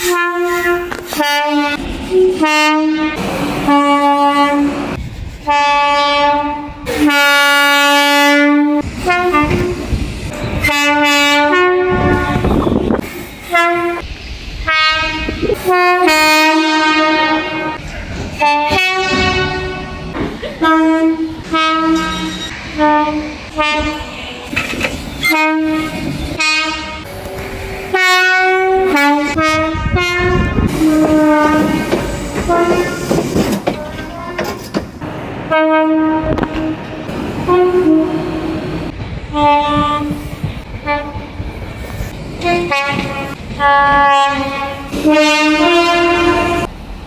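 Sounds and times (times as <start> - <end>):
two-tone train horn blasts: 0.0 - 14.0, 14.6 - 17.8, 18.4 - 24.2, 25.2 - 33.1, 35.5 - 41.4, 42.4 - 46.7
train rumbling over rails: 0.0 - 47.0.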